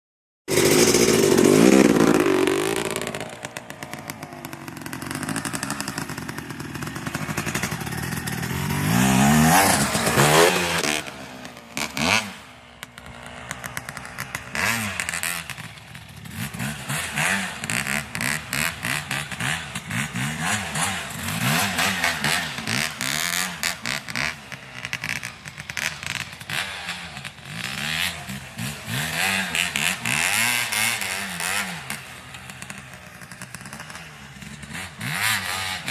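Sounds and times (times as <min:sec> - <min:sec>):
dirt bike engine revving: 0:00.5 - 0:35.9.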